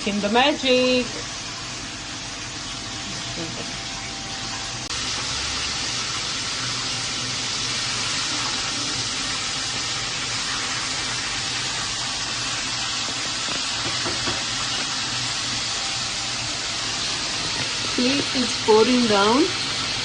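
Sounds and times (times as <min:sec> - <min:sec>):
coffee maker brewing hiss: 0:00.0 - 0:20.0.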